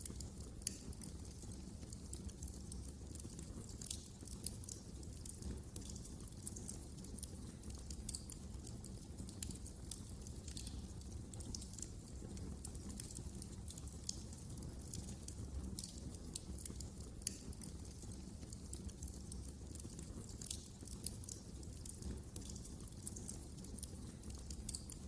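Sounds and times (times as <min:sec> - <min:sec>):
fire crackling and popping: 0:00.0 - 0:25.0
low rumble of burning: 0:00.0 - 0:25.0.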